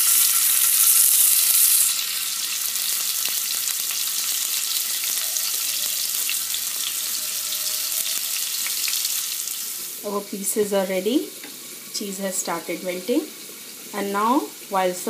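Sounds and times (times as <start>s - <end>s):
oil sizzling on a griddle: 0.0s - 15.0s.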